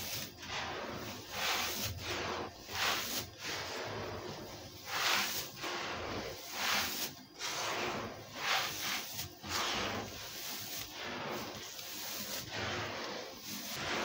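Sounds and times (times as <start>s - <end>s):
hand sweeping grit on floor: 0.0s - 14.0s.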